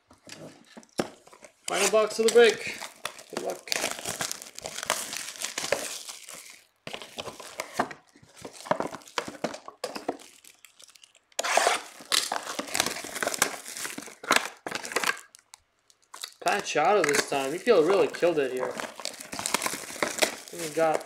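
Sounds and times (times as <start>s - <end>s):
plastic wrap tearing and crinkling: 0.4s - 21.0s.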